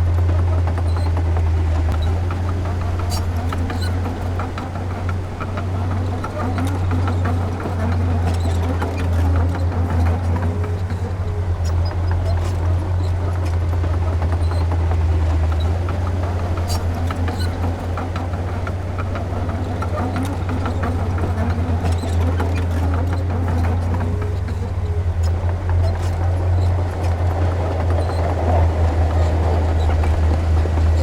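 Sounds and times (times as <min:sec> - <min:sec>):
diesel engine droning: 0:00.0 - 0:31.0
sharp clicks and clanks: 0:00.0 - 0:31.0.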